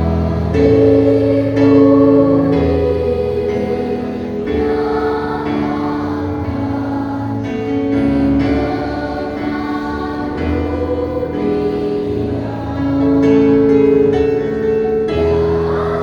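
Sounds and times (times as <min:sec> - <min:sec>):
children's choir singing a hymn: 0:00.0 - 0:16.0.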